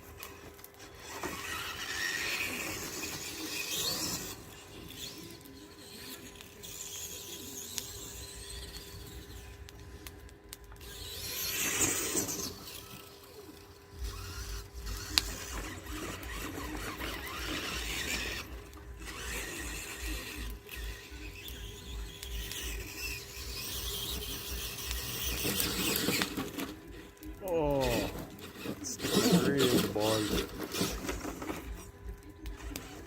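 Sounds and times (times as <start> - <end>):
rc truck drivetrain whining: 0.0 - 33.0.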